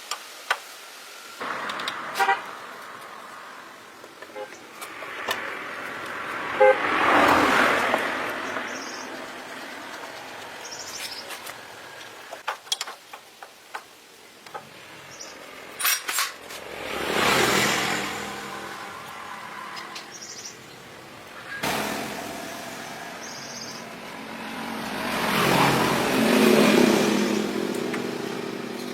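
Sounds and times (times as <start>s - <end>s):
road vehicles passing: 1.2s - 12.4s, 14.5s - 28.9s.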